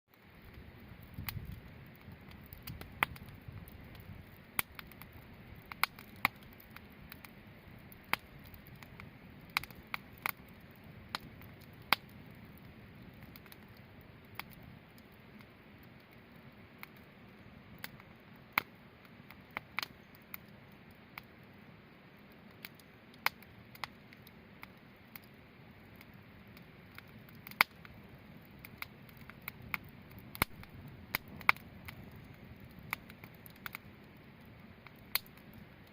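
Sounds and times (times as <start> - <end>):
campfire crackling: 0.1 - 35.9
sharp fire pops: 0.2 - 17.1, 17.8 - 20.6, 22.2 - 35.9.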